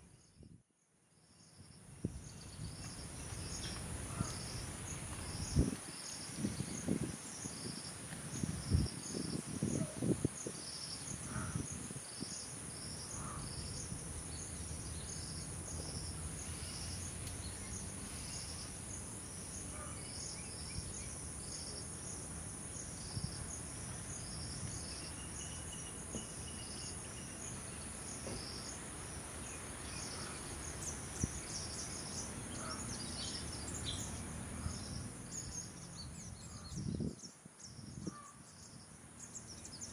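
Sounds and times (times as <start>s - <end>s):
insects chirping: 1.1s - 39.9s.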